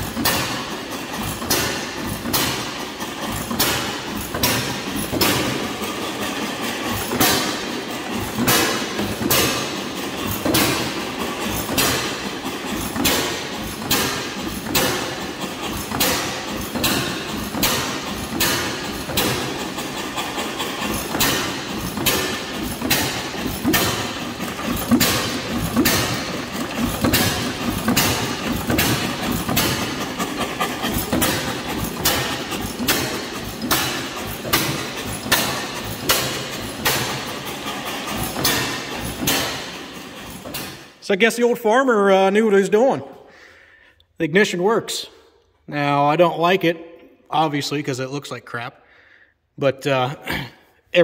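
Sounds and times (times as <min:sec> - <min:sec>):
gas engine exhaust bangs: 0:00.0 - 0:41.1.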